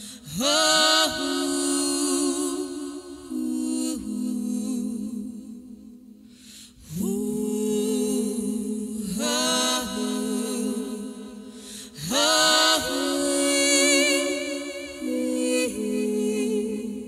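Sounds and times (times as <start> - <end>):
a cappella singing: 0.0 - 17.0.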